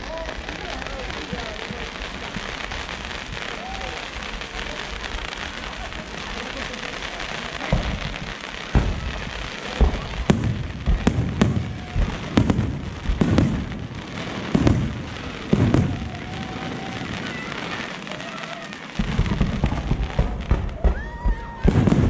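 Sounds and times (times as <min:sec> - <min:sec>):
fireworks booms and bangs: 0:00.0 - 0:22.0
fireworks crackle: 0:00.0 - 0:22.0.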